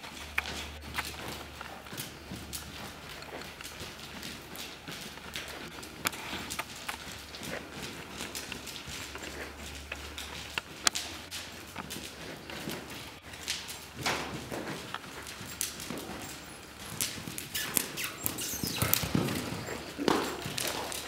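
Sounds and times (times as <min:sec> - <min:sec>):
pony hooves trotting on sand: 0:00.0 - 0:21.0.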